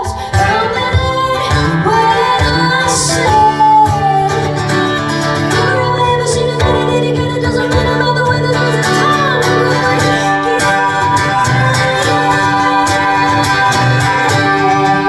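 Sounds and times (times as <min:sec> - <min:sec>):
live band music: 0:00.0 - 0:15.0
woman singing: 0:00.0 - 0:15.0.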